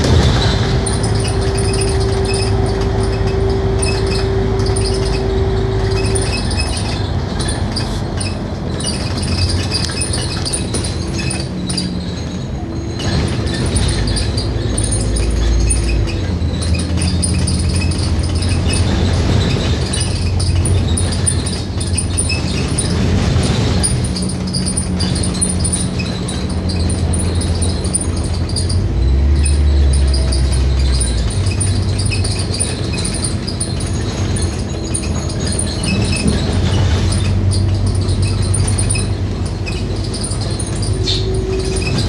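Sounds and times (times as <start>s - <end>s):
bus diesel engine drone: 0.0s - 42.0s
jingling rattle of loose fittings: 0.0s - 42.0s
road noise: 0.0s - 42.0s.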